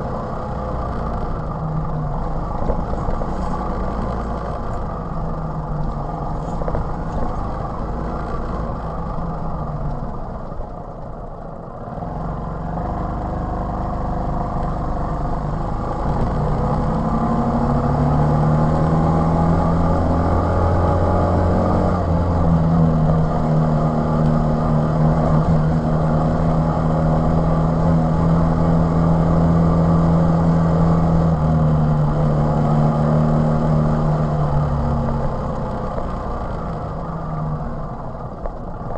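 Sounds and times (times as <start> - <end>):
moped engine running: 0.0 - 38.9.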